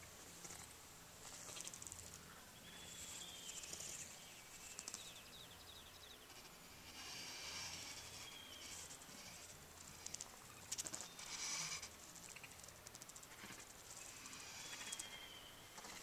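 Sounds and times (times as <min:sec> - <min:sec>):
birds chirping trills: 0:01.2 - 0:16.0.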